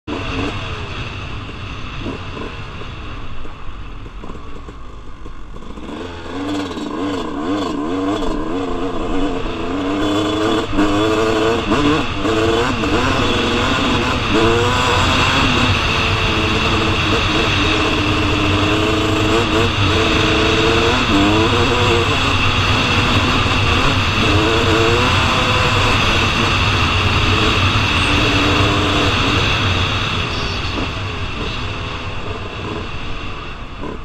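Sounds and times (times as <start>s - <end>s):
dirt bike engine revving: 5.3s - 34.0s.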